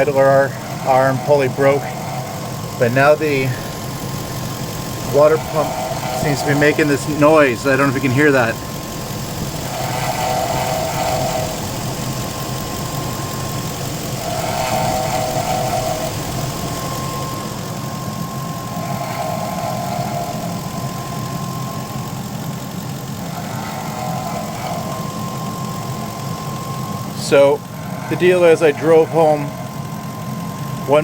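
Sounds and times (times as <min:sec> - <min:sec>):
car engine idling with whine: 0:00.0 - 0:31.0
pulsing second tone: 0:00.0 - 0:31.0.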